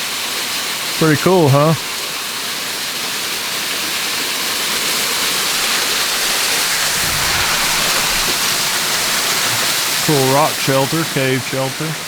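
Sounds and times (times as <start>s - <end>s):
small waterfall splashing: 0.0s - 12.0s.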